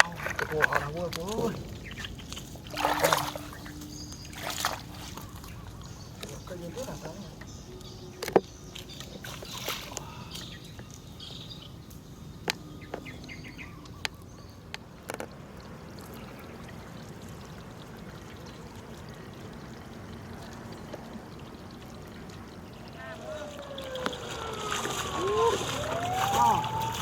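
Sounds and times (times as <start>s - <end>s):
water splashes: 0.0s - 27.0s
water trickling and sloshing: 0.0s - 27.0s.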